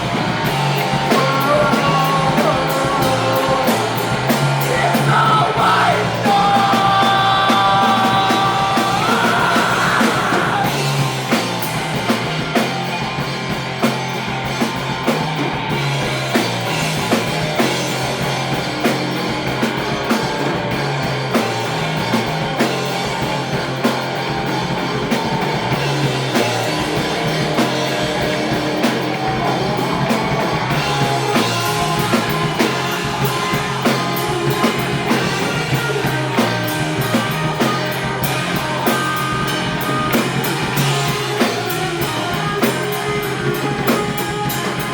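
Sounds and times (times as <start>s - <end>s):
drum kit beat: 0.0s - 44.9s
electric guitar: 0.0s - 44.9s.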